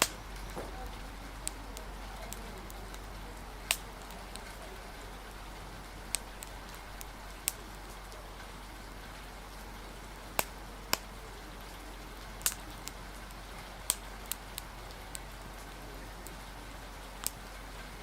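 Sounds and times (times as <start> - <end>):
rain hiss: 0.0 - 18.0
wood fire crackling: 0.0 - 18.0.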